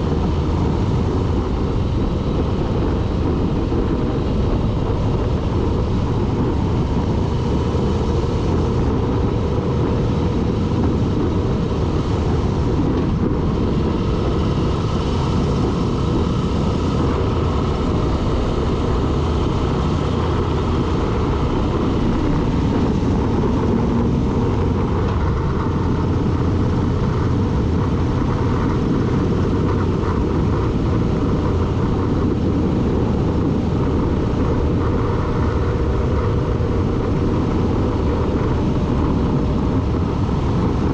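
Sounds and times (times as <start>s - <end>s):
vehicle driving: 0.0s - 40.9s.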